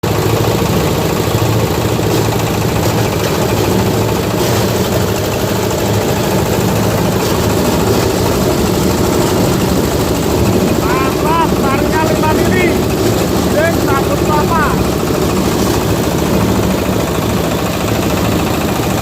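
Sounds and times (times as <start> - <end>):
diesel-driven grinding machine: 0.0 - 19.0.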